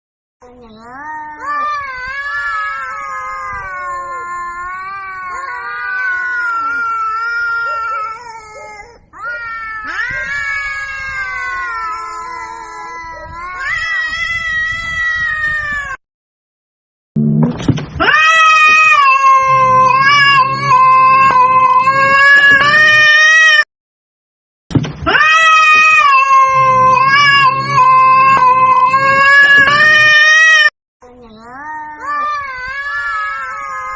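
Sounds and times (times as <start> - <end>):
cats yowling: 1.0 - 16.0, 18.0 - 23.6, 25.1 - 30.7, 31.5 - 33.9.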